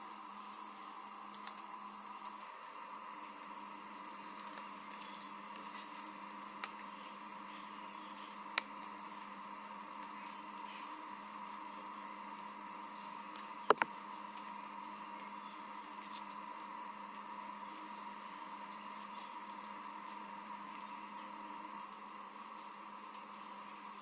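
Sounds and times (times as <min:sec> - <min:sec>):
jungle insects droning: 0:00.0 - 0:24.0.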